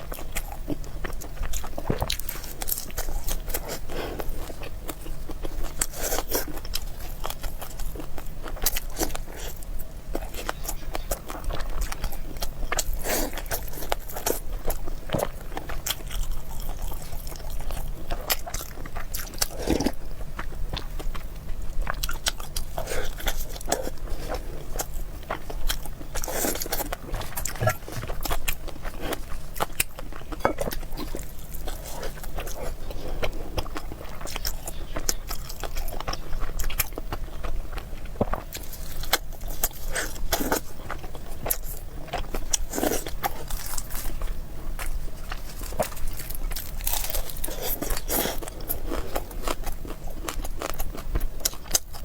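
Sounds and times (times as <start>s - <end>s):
person biting and chewing food: 0.1s - 21.2s, 21.8s - 52.0s.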